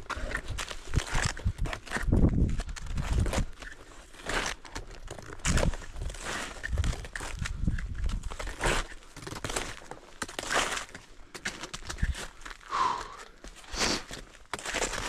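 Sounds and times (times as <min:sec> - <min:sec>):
snowshoe footsteps crunching in snow: 0:00.1 - 0:15.0.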